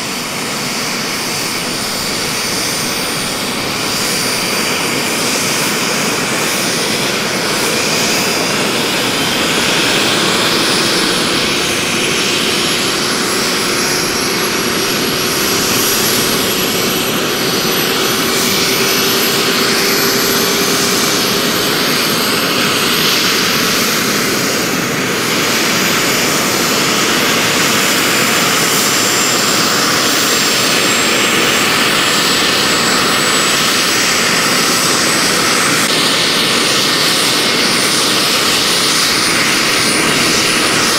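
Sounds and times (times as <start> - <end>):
model helicopter rotors whining: 0.0 - 40.9.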